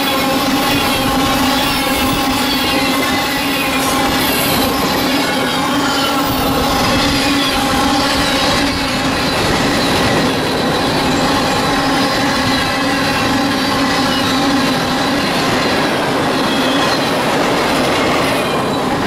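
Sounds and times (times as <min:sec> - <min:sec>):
freight train rolling past: 0:00.0 - 0:19.0
wheel whine: 0:00.0 - 0:19.0.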